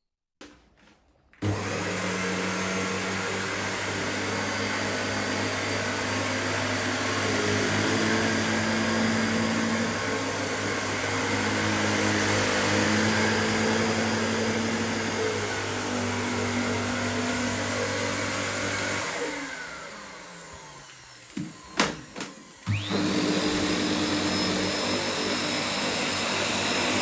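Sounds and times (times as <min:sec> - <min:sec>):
vacuum cleaner running: 0:01.4 - 0:27.0.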